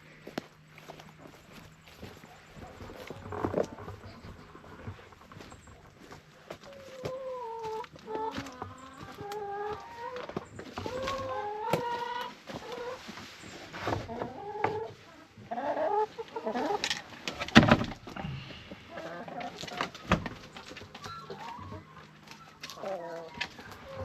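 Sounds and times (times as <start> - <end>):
chickens clucking: 0.2 - 24.0.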